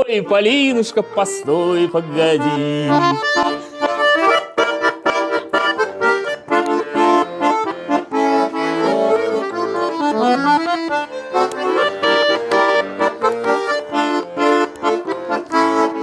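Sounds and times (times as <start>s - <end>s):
accordion playing folk melody: 0.0s - 16.0s.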